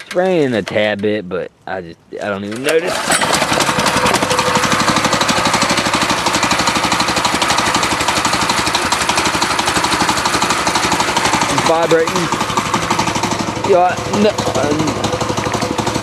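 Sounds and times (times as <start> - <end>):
riding mower engine idling: 2.3 - 16.0.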